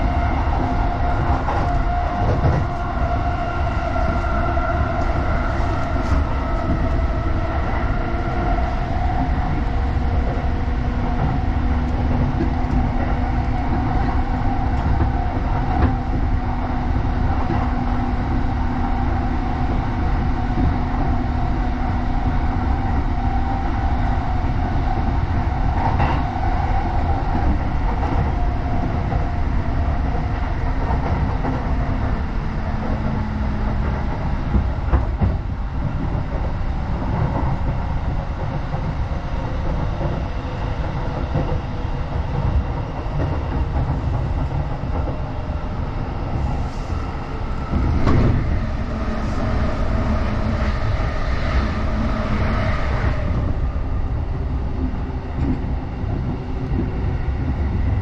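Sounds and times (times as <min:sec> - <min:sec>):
rail joint clicks: 0:00.0 - 0:58.0
train wheels rumbling on rail: 0:00.0 - 0:58.0.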